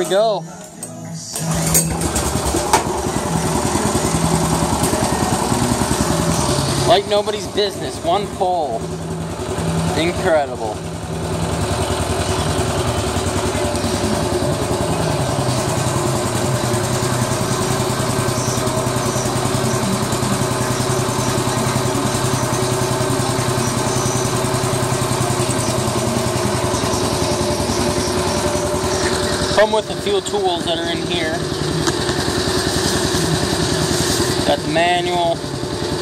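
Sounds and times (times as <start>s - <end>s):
small engine idling: 0.0s - 36.0s.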